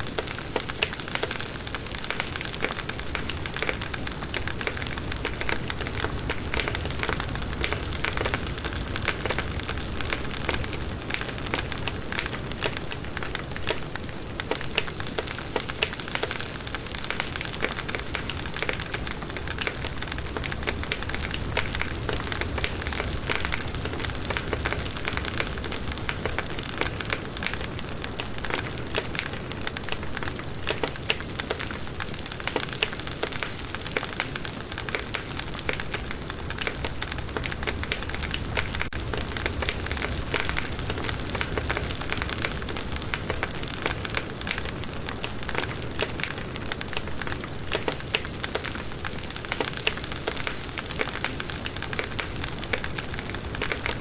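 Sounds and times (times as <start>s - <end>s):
campfire crackling and snapping: 0.0s - 54.0s.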